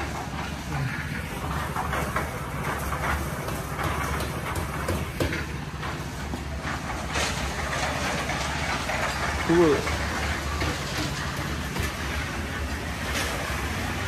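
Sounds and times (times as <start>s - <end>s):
concrete mixer engine droning: 0.0s - 14.0s
knocks and clatter: 0.0s - 14.0s.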